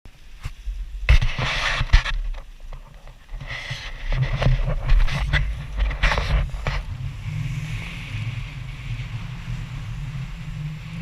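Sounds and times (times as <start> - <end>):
water rushing along boat hull: 0.2 - 11.0
wind on microphone: 0.4 - 11.0.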